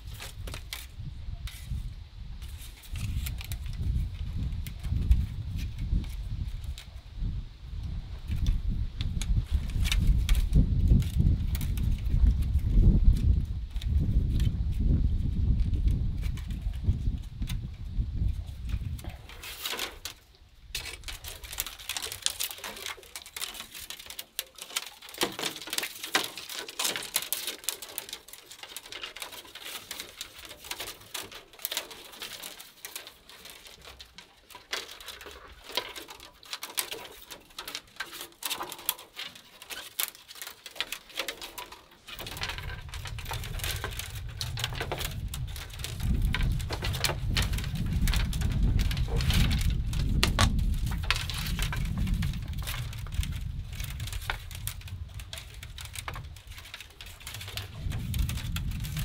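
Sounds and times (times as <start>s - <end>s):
bamboo strips clicking and scraping: 0.0s - 59.0s.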